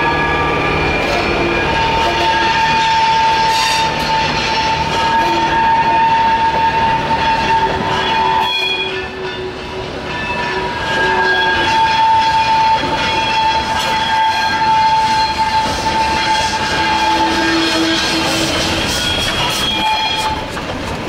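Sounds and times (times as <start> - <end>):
train wheels squealing: 0.0 - 20.6
wheels clattering on rail: 0.9 - 21.0.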